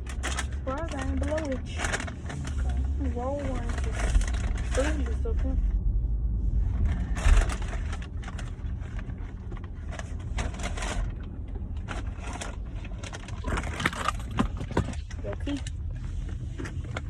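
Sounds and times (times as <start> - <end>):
car cabin rumble: 0.0 - 17.0
rustling noises: 0.0 - 17.0.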